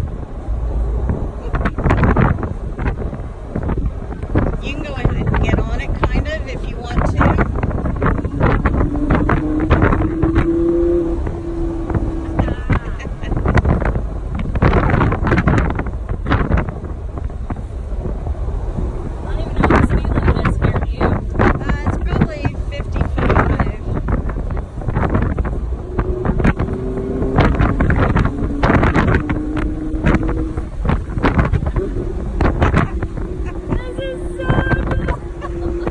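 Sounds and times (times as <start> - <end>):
car engine and road noise: 0.0 - 35.9
wind buffeting microphone: 0.0 - 35.9.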